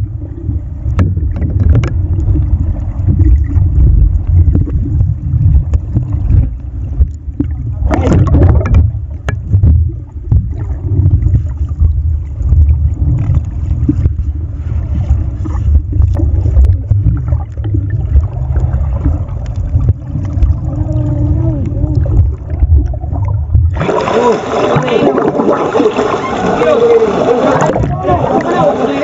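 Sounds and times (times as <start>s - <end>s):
muffled underwater water rumble: 0.0s - 29.0s
water rush: 0.0s - 29.0s.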